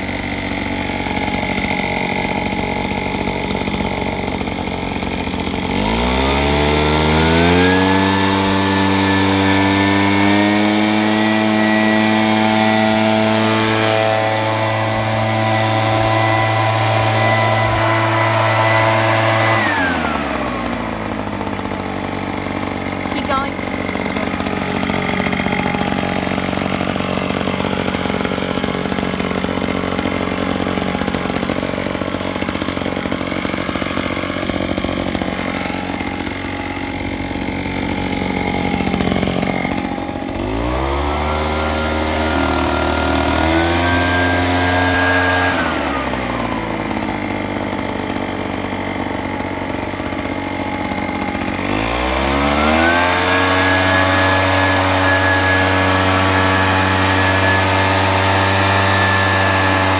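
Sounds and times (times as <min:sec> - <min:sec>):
small engine running and revving: 0:00.0 - 0:59.9.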